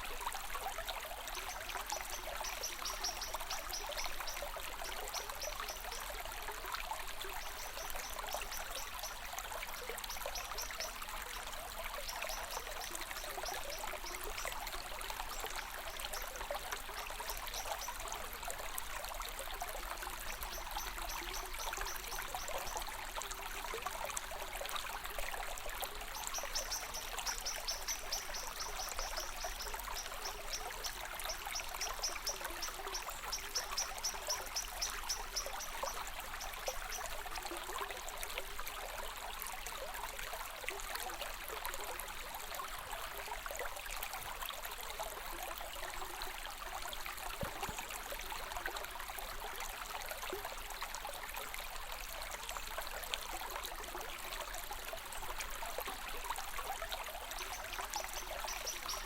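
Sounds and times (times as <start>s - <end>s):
stream water trickling: 0.0s - 59.0s.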